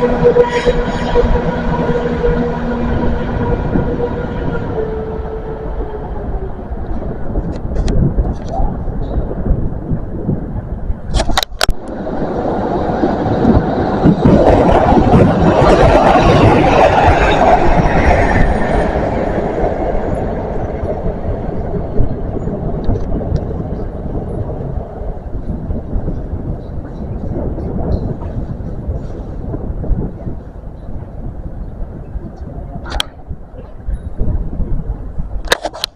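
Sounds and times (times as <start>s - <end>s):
train rumbling past: 0.0s - 11.1s, 11.8s - 35.4s.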